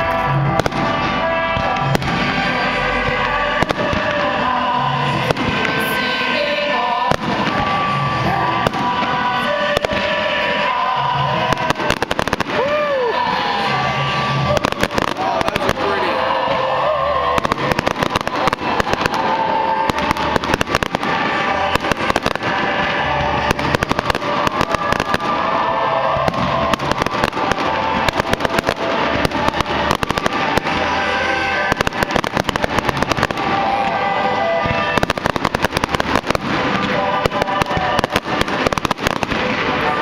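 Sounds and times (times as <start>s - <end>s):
fireworks bangs and crackles: 0.0s - 40.0s
music playing: 0.0s - 40.0s.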